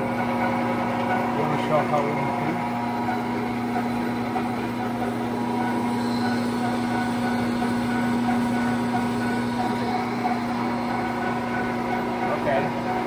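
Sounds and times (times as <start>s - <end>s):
lathe humming and whining: 0.0s - 13.0s.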